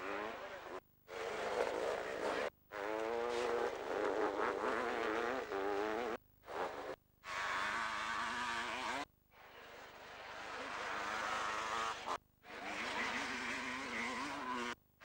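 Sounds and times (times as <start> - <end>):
motocross bike engines revving: 0.0 - 9.0, 9.8 - 14.8.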